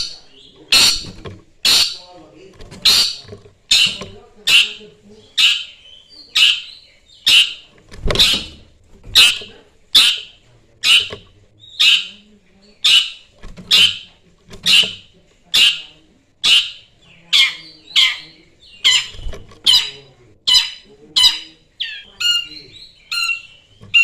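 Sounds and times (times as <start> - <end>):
shrike calling: 2.8 - 8.6, 9.2 - 24.0.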